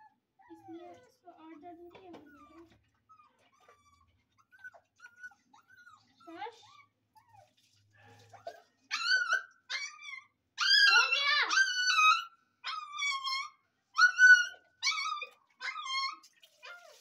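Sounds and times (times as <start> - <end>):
puppy whining and crying: 0.0 - 7.7, 8.3 - 17.0.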